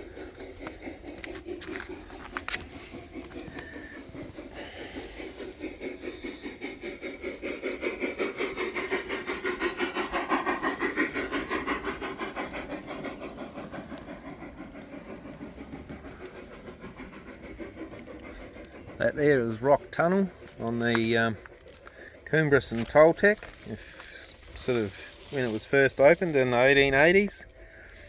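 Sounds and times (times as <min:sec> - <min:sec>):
model train clattering past: 0:00.0 - 0:28.0.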